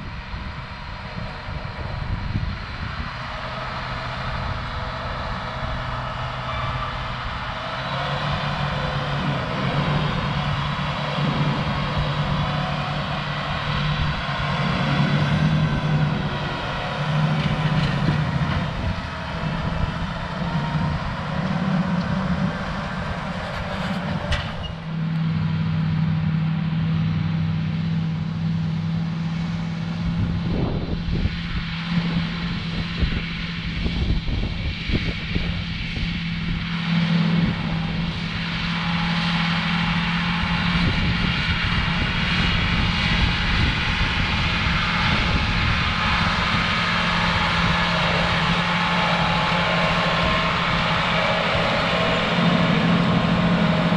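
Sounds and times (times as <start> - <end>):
tractor engine running under load: 0.0 - 53.9.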